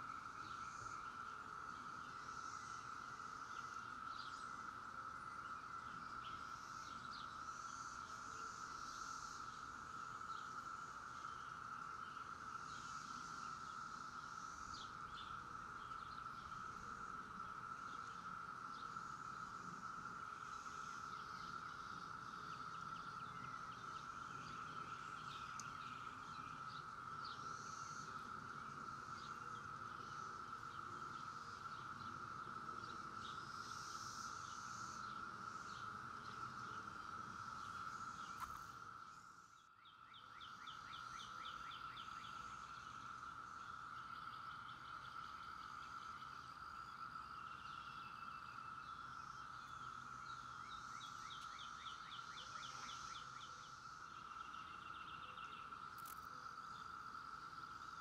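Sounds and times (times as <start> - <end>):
cicadas droning: 0.0 - 58.0.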